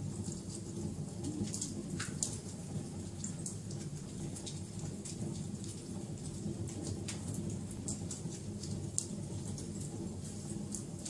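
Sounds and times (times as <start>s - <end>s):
low fire rumble: 0.0s - 11.0s
wood fire crackling: 0.0s - 11.0s.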